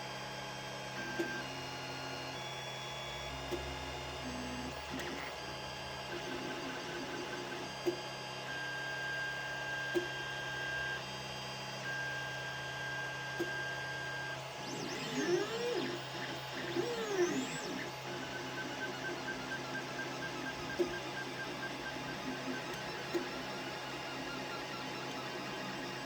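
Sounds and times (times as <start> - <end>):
three d printer motors whining: 1.0 - 2.5, 3.5 - 26.0.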